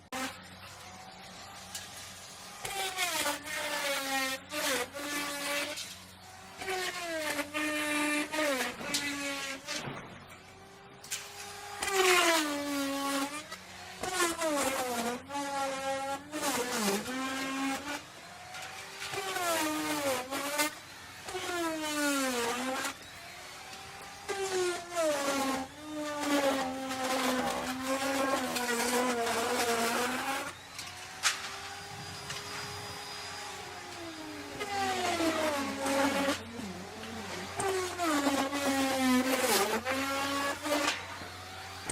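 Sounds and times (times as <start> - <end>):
electric router cutting wood: 0.0 - 41.9.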